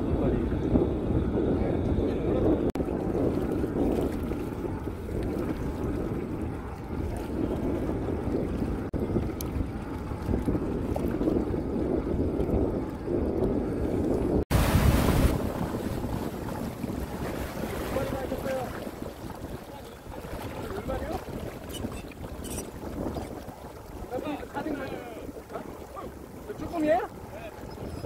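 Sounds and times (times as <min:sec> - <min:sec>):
rush of wind and water: 0:00.0 - 0:28.0
water lapping around boat: 0:00.0 - 0:28.0
wind buffeting microphone: 0:00.0 - 0:28.0.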